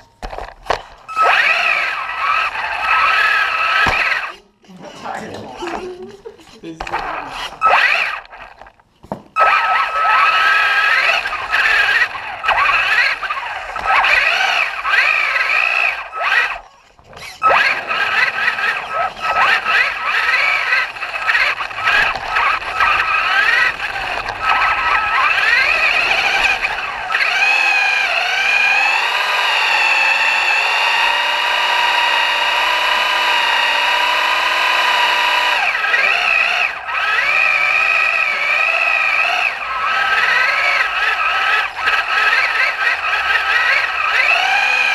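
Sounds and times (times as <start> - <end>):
toy truck motor whining: 0.0 - 44.9.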